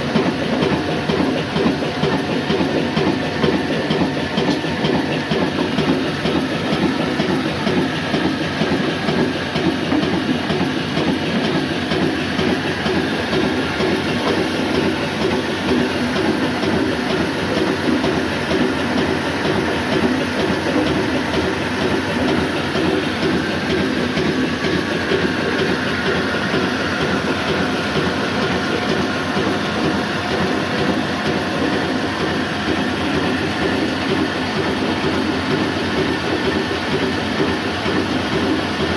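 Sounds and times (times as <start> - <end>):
diesel engine running under load: 0.0 - 38.9
rhythmic clatter of mill machinery: 0.0 - 38.9.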